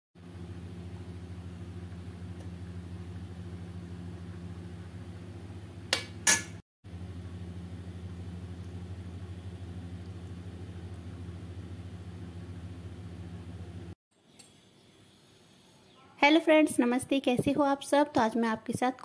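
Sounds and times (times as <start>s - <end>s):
low mechanical hum: 0.2s - 17.8s.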